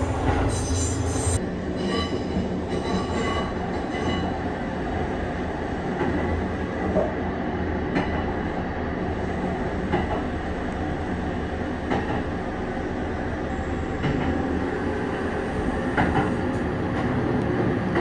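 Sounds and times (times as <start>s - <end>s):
rail joints clacking: 0.0s - 7.2s, 7.8s - 8.6s, 9.2s - 18.0s
electric train rumbling: 0.0s - 18.0s.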